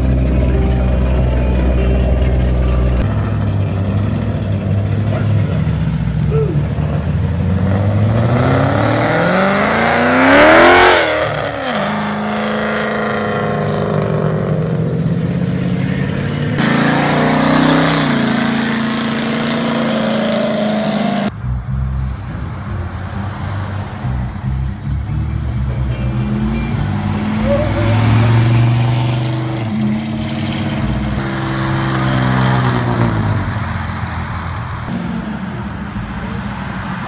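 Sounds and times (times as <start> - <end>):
cars accelerating past: 0.0 - 37.0
pickup truck engine: 0.0 - 37.0.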